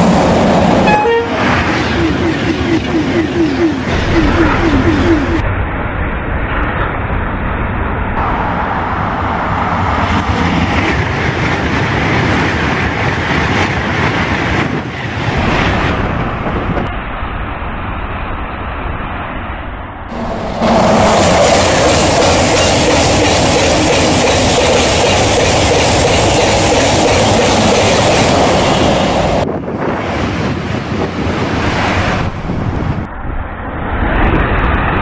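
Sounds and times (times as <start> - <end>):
high-speed train rushing past: 0.0 - 35.0.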